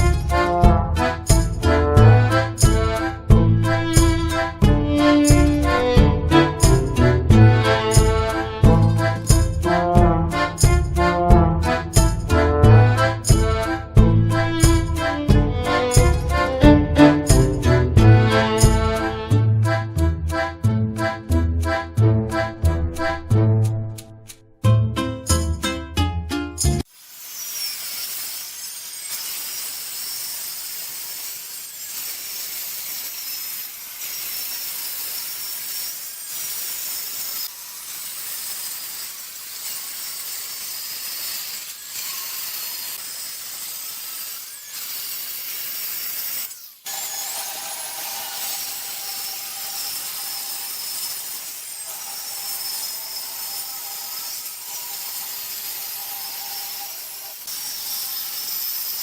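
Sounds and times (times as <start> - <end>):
tool cutting wood: 0.0 - 24.4, 26.8 - 59.0.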